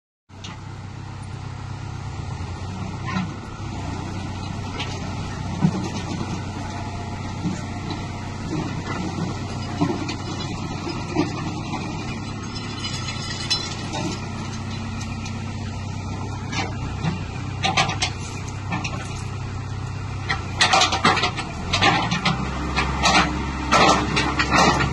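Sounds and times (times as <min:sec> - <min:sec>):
excavator diesel engine running: 0:00.3 - 0:24.9.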